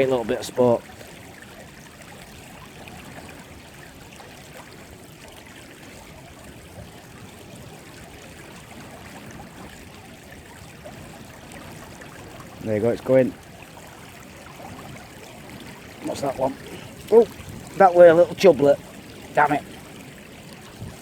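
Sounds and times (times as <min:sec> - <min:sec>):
river flowing: 0:00.0 - 0:21.0.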